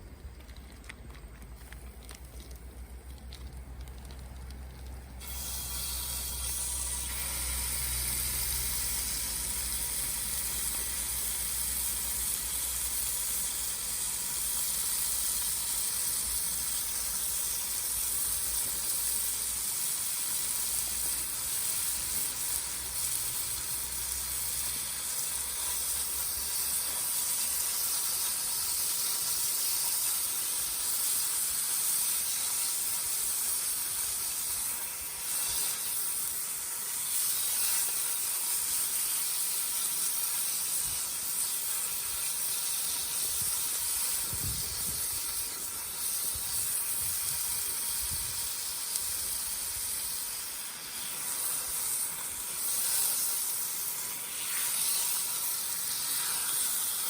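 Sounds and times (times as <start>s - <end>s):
steady high hiss: 0.0s - 57.0s.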